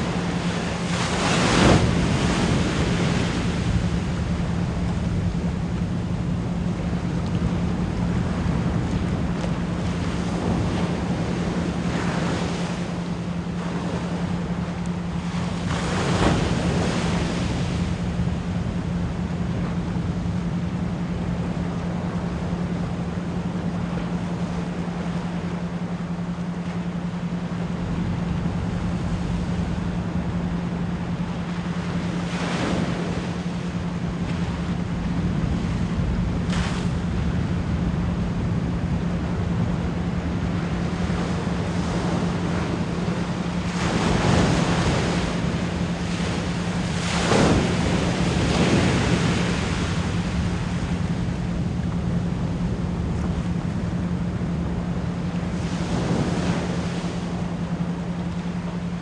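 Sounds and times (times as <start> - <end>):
constant low pure tone: 0.0 - 59.0
ocean waves washing in: 0.0 - 59.0.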